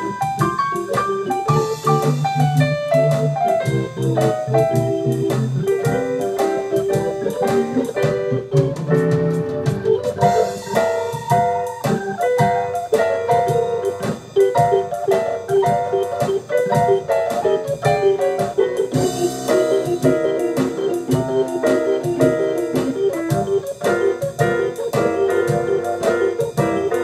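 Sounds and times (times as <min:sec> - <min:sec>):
organ chords: 0:00.0 - 0:27.0
piano-style keyboard lines: 0:00.0 - 0:27.0
steady drum beat: 0:00.0 - 0:27.0.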